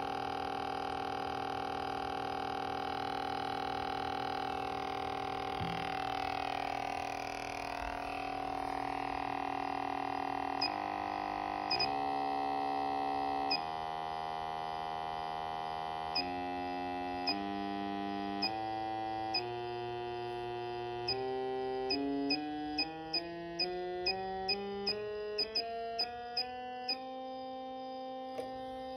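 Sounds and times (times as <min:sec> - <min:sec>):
buzzy electronic tone: 0:03.1 - 0:28.9.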